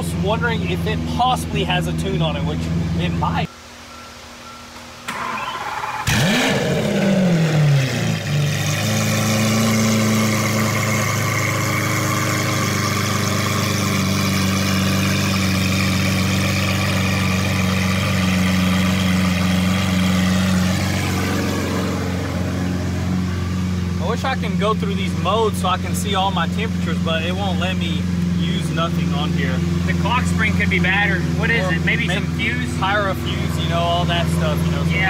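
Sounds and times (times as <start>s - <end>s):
car engine revving then idling: 5.1s - 35.0s.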